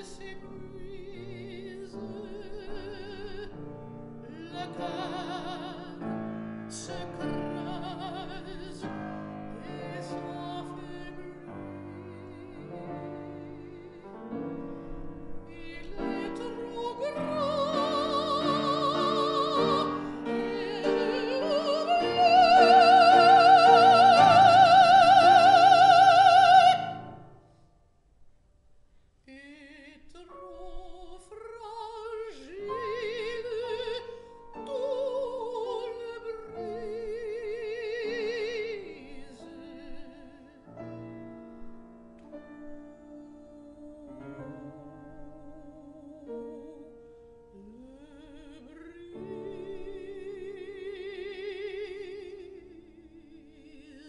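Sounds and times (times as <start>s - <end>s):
woman singing opera: 0.0s - 27.3s, 29.3s - 54.0s
grand piano: 0.0s - 28.5s, 29.3s - 54.0s.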